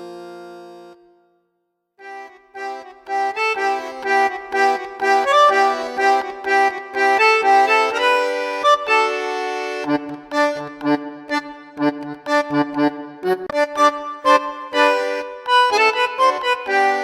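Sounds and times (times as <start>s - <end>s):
upbeat accordion music: 0.0s - 1.2s, 2.0s - 17.0s.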